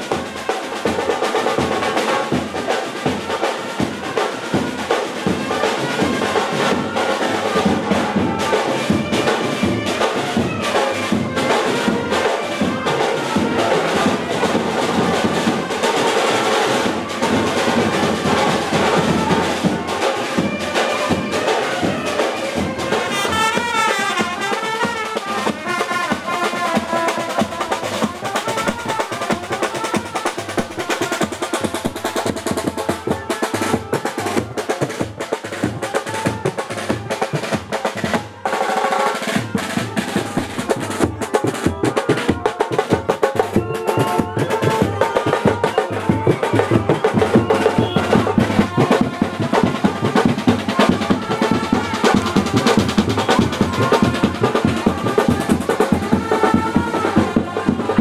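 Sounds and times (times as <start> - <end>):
brass band music: 0.0 - 58.0.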